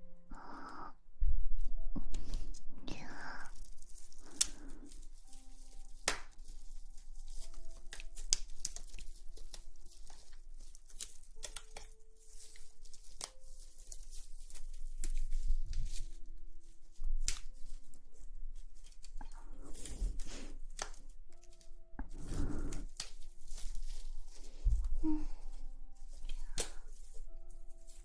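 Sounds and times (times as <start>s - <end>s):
crinkling rustles: 2.2s - 28.0s.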